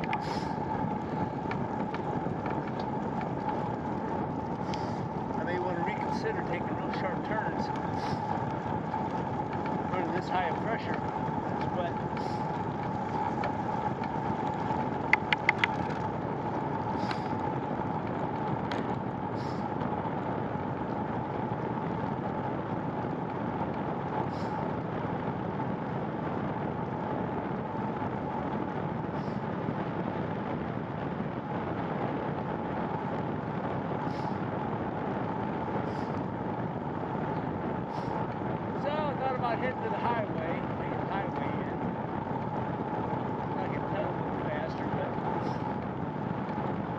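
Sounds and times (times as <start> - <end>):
bicycle tyres rolling on road: 0.0 - 46.9
constant hum: 0.0 - 46.9
wind on microphone: 0.0 - 46.9.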